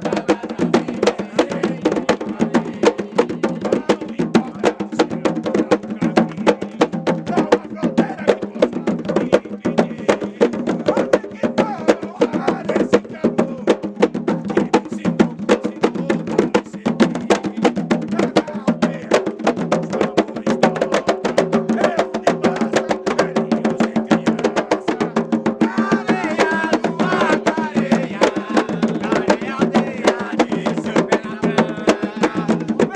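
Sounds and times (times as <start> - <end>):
hand drums and percussion: 0.0 - 32.9
voices singing: 0.0 - 32.9.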